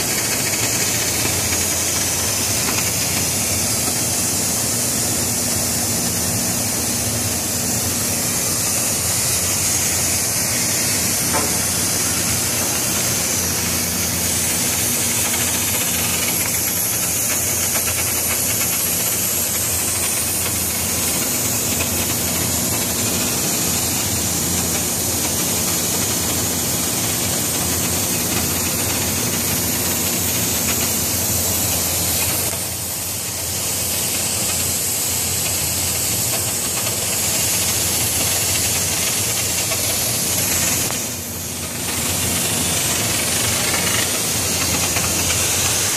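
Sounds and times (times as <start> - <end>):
cutting torch hissing: 0.0 - 45.9.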